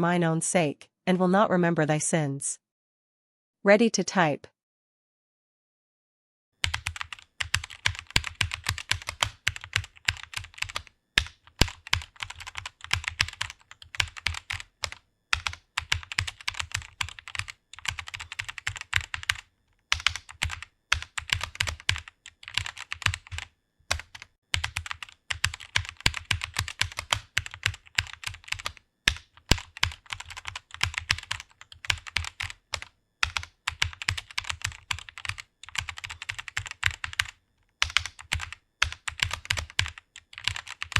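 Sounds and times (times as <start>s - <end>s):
fast typing on keyboard: 6.6s - 40.9s.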